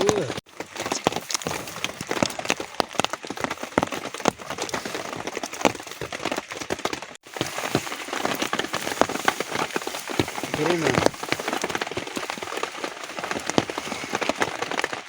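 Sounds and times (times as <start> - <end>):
rain falling: 0.0 - 15.0
raindrops striking close by: 0.0 - 15.0.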